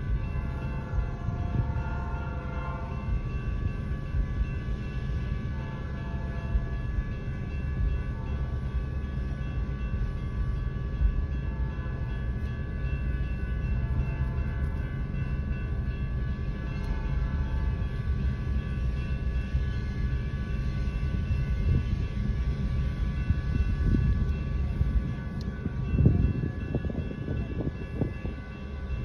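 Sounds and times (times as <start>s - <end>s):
train horn: 0.0s - 9.3s, 10.3s - 12.5s, 13.3s - 29.0s
freight train rumbling: 0.0s - 29.0s.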